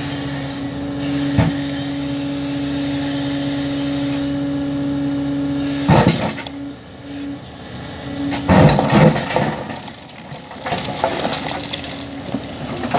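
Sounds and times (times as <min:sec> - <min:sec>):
excavator engine running: 0:00.0 - 0:12.9.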